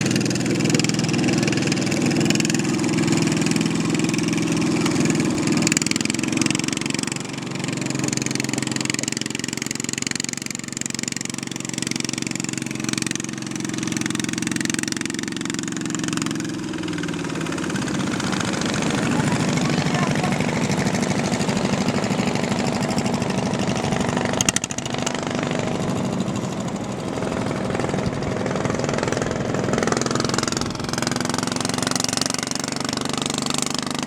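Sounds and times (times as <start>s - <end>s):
boat engine running: 0.0s - 34.0s.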